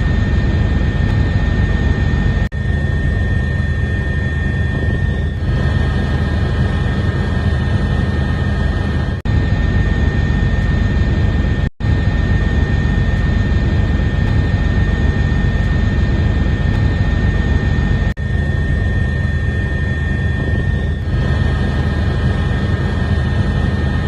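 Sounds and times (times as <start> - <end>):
aircraft engine rumble and whine: 0.0 - 24.0.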